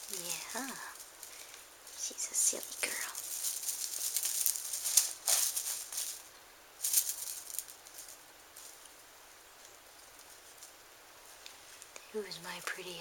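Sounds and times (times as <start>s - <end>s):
cat toy streamers rustling: 0.0s - 11.9s.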